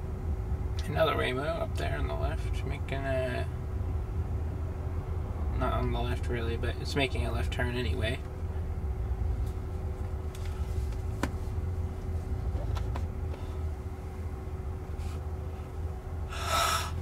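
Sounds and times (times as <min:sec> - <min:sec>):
faint steady hum: 0:00.0 - 0:17.0
low cabin rumble: 0:00.0 - 0:17.0.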